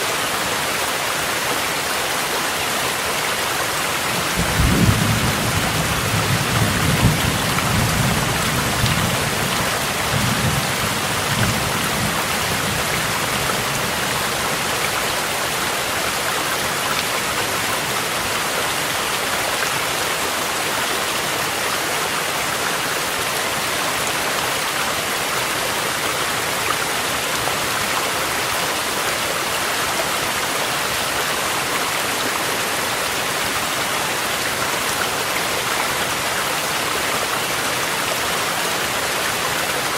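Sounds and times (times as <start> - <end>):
steady rain: 0.0 - 39.9
stream rushing: 0.0 - 39.9.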